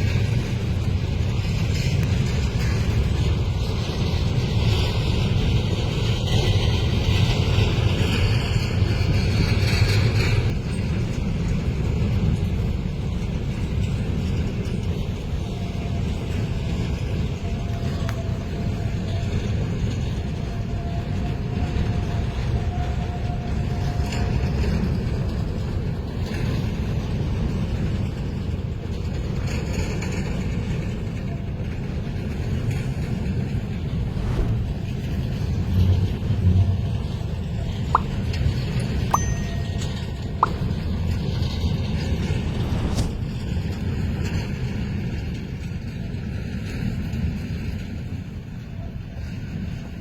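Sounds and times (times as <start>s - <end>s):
diesel locomotive engines rumbling: 0.0s - 50.0s.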